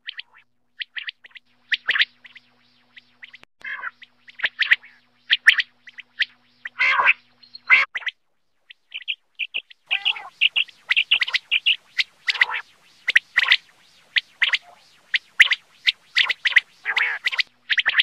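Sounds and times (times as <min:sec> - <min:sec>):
quail calling: 0:00.0 - 0:18.0.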